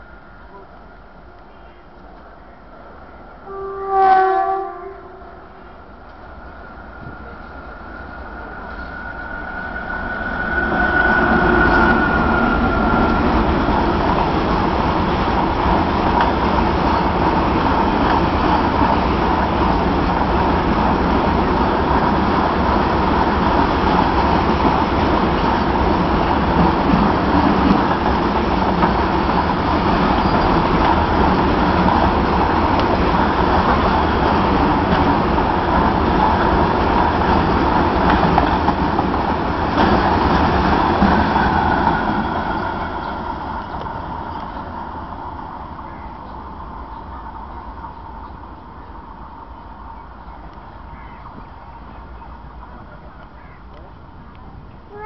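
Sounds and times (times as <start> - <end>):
train running: 0.0 - 55.0.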